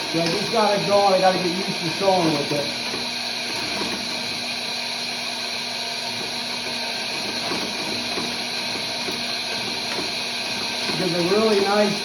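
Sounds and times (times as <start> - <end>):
stitching machine hum: 0.0 - 12.0.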